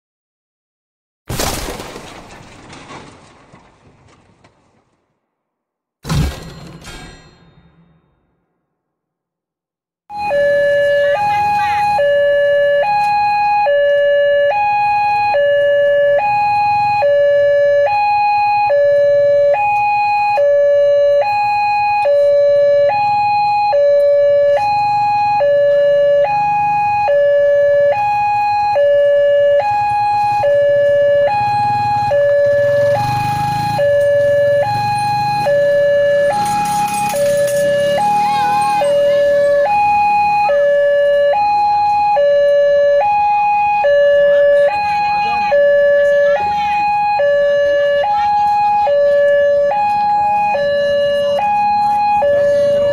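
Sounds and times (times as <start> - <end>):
level-crossing two-tone alarm: 10.1 - 52.9
road traffic engine rumble: 10.2 - 52.9.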